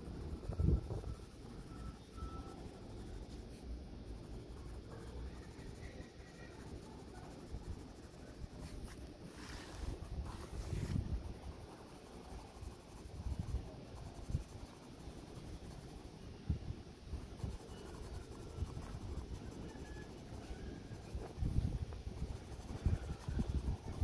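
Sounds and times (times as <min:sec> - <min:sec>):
pencil scratching on paper: 0:00.0 - 0:16.2, 0:17.1 - 0:24.0.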